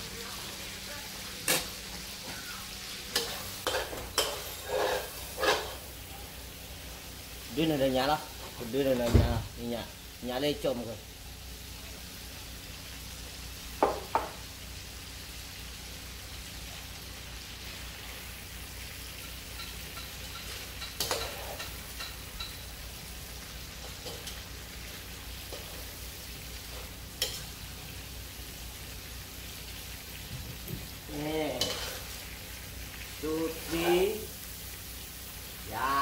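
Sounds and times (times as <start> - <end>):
sauce sizzling in a wok: 0.0 - 36.0.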